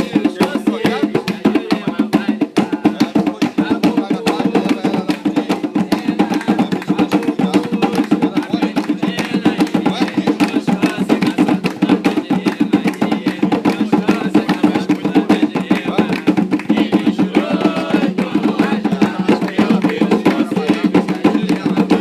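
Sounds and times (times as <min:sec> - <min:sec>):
drums and percussion beating: 0:00.0 - 0:22.0
group of voices chanting: 0:00.0 - 0:22.0.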